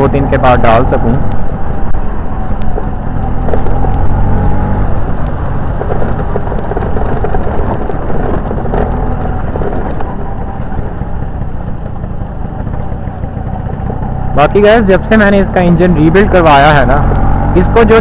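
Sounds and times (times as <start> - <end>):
road noise: 0.0 - 18.0
scooter engine running: 0.1 - 18.0.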